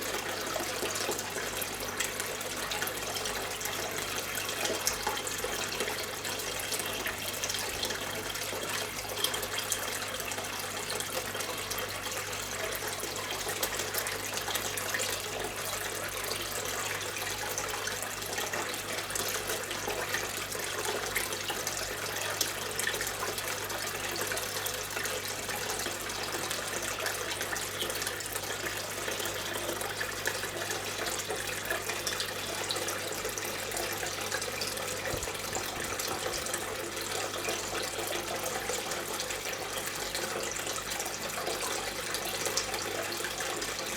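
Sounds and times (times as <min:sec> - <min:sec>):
fountain water trickling and splashing: 0:00.0 - 0:43.9.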